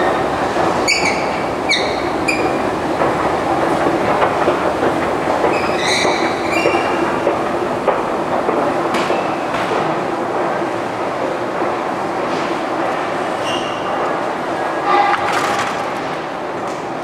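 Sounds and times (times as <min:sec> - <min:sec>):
escalator steps rattling rumble: 0:00.0 - 0:17.0.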